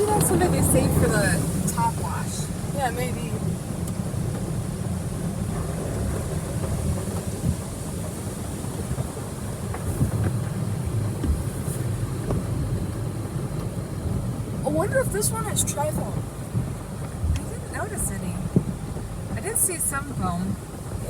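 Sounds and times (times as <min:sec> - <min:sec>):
automatic car wash running: 0:00.0 - 0:21.0.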